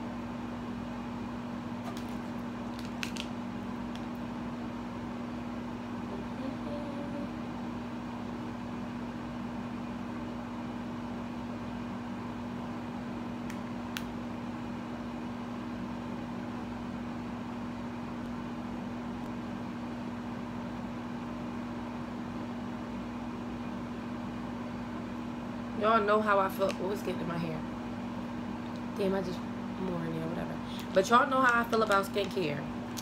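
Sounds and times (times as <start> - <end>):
mechanical hum with low drone: 0.0 - 33.0.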